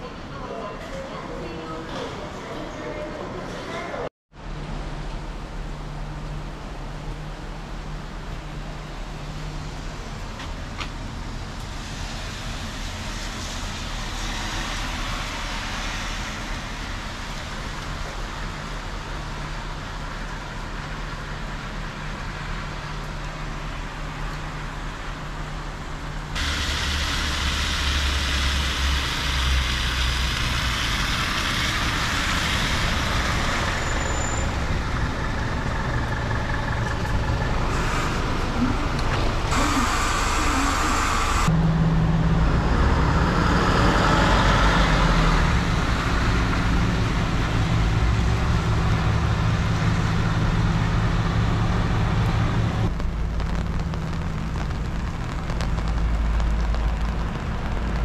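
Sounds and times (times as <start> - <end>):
traffic noise: 0.0 - 58.0
engine rumble: 4.4 - 58.0.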